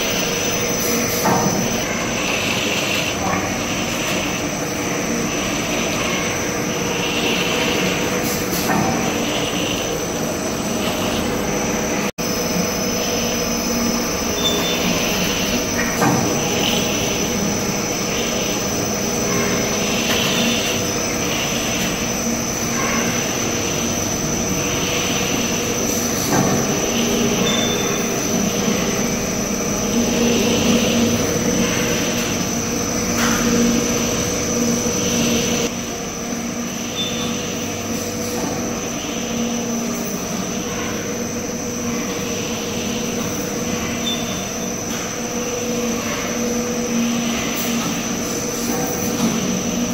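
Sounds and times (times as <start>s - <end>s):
machinery humming with high whine: 0.0s - 49.9s.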